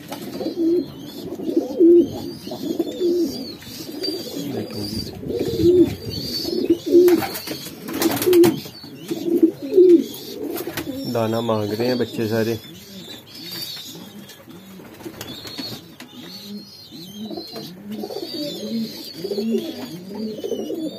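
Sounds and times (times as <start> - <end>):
pigeons cooing: 0.0 - 20.9
young pigeons peeping: 0.0 - 20.9.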